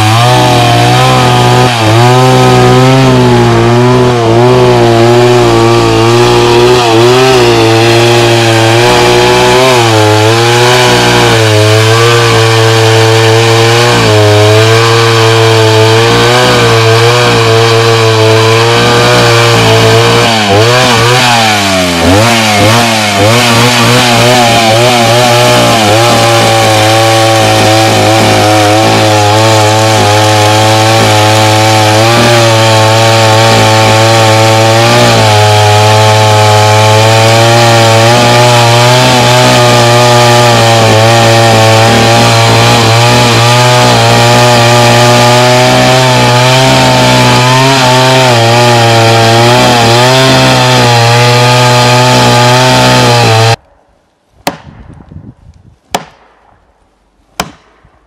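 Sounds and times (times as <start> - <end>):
chainsaw cutting tree trunk: 0.0 - 53.6, 57.4 - 57.6.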